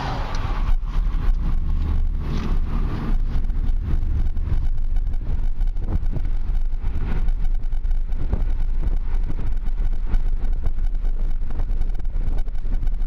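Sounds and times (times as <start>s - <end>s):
car cabin rumble: 0.0s - 13.0s
wind noise on microphone: 0.0s - 13.0s.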